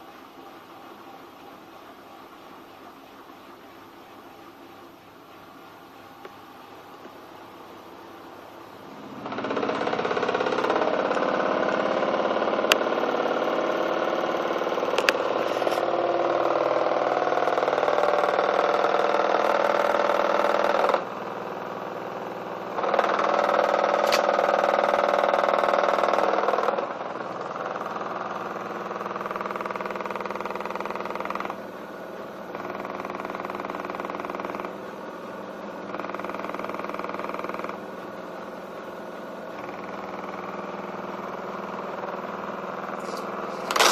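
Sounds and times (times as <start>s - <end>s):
washing machine vibrating loudly: 1.6s - 43.9s.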